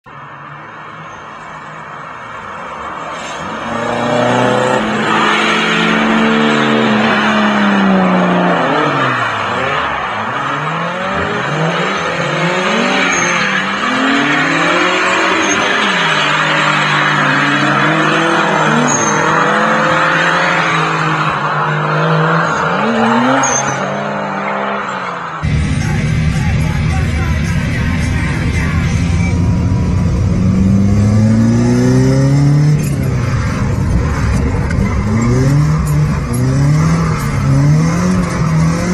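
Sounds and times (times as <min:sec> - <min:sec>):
car engine revving: 0:02.6 - 0:38.9.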